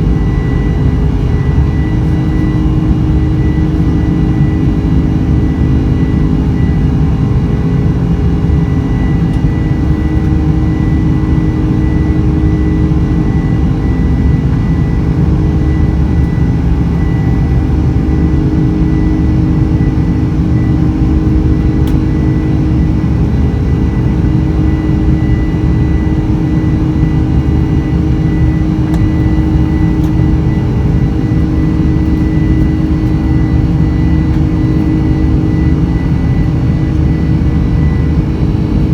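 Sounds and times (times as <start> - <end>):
jet cabin engine drone: 0.0 - 38.9.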